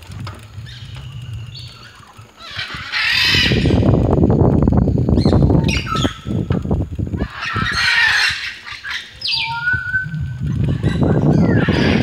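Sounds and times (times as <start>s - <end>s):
birds calling: 0.1s - 12.0s.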